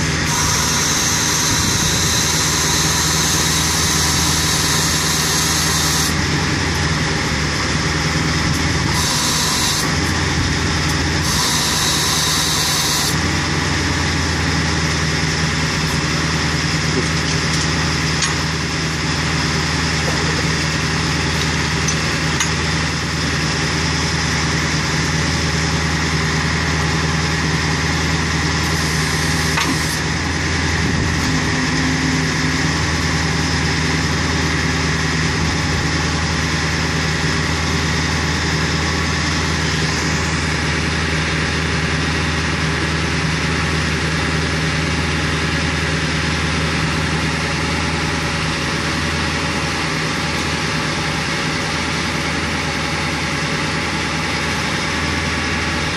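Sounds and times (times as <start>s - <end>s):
truck engine idling: 0.0s - 55.9s.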